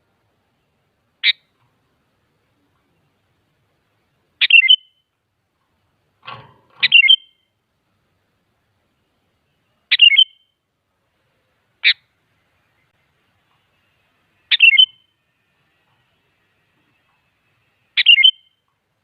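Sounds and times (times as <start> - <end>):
bird chirping: 0.0 - 5.2, 6.7 - 7.6, 8.7 - 18.8.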